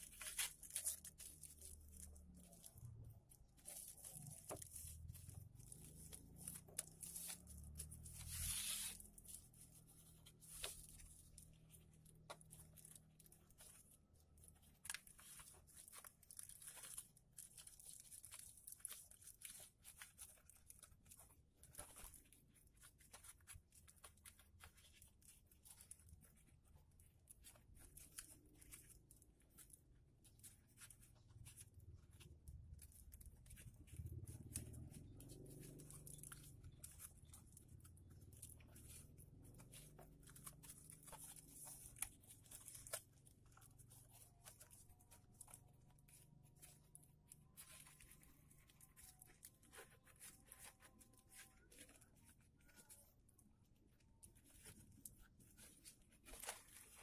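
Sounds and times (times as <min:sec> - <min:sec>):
paper crinkling and rustling: 0:00.0 - 0:57.0.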